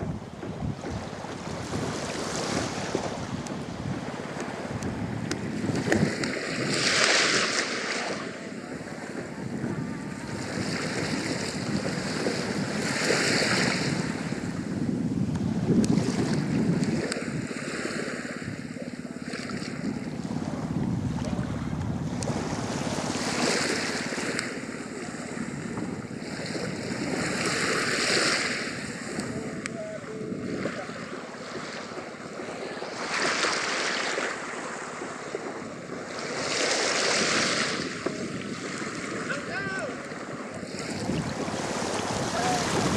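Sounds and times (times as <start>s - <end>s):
waves washing against rocks: 0.0s - 42.9s
wind on microphone: 0.0s - 42.9s.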